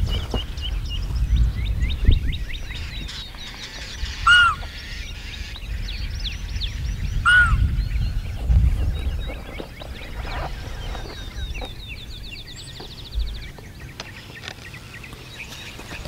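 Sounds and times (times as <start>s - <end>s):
small birds chirping: 0.0s - 16.0s
loud arching bird calls: 0.4s - 8.2s, 9.0s - 16.0s.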